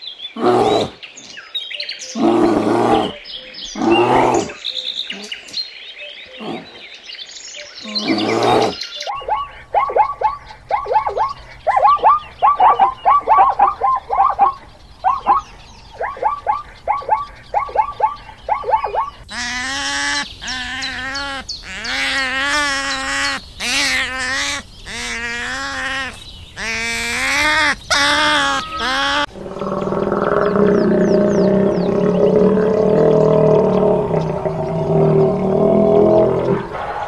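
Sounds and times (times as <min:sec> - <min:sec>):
longer wavering animal calls: 0:02.2 - 0:05.4, 0:07.8 - 0:37.0.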